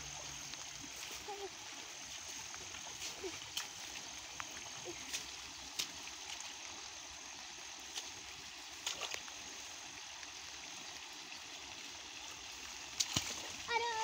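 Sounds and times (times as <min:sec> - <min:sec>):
hands sloshing through muddy water: 0:00.0 - 0:09.8, 0:12.5 - 0:14.0
small sharp splashes: 0:00.0 - 0:10.4, 0:12.5 - 0:14.0.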